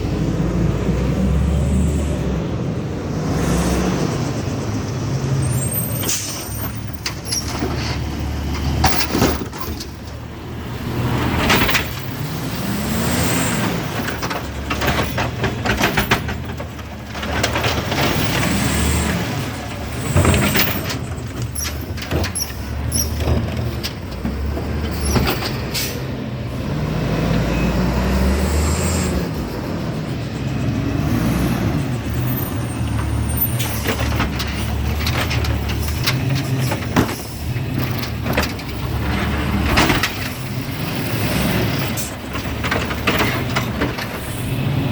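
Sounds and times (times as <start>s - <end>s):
diesel engine rising and falling: 0.0s - 44.9s
clanks and bangs of cart: 4.3s - 44.9s.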